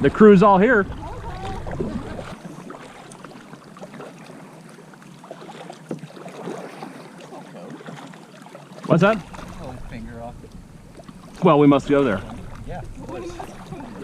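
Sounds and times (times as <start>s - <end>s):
paddles splashing in water: 0.0s - 14.0s.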